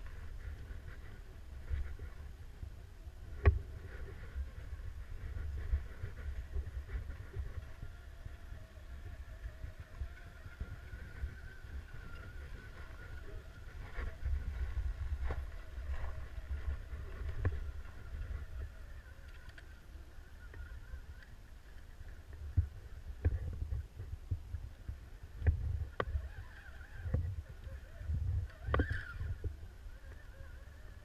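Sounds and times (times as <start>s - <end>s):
wind buffeting microphone: 0.0s - 31.0s
electric motor whine: 2.9s - 23.9s, 25.3s - 31.0s.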